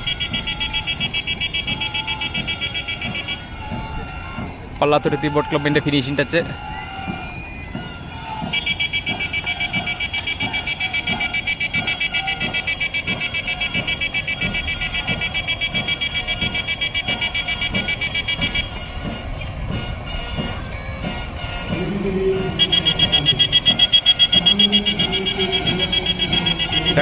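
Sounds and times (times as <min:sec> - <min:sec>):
low regular knocks: 0:00.0 - 0:27.0
shrill pulsing alarm tone: 0:00.0 - 0:27.0.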